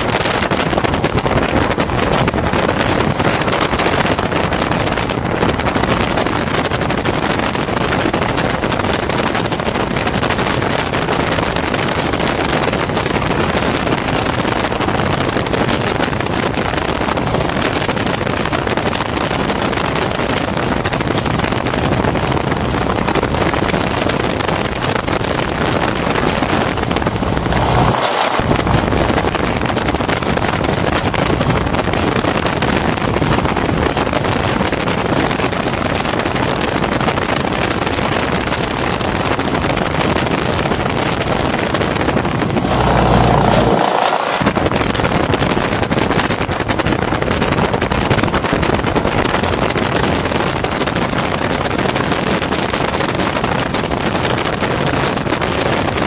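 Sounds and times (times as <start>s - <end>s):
two-stroke engine and propeller: 0.0s - 56.0s
wind noise on microphone: 0.0s - 56.0s.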